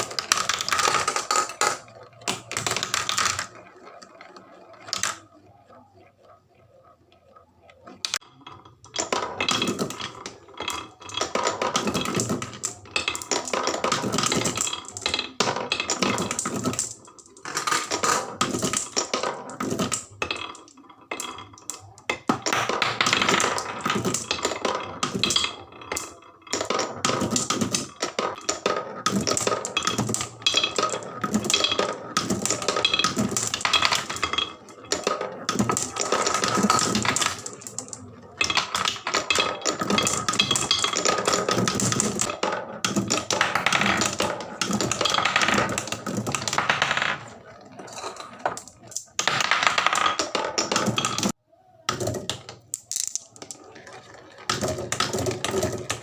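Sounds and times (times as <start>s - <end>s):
marbles rolling down wooden run: 0.0s - 56.0s.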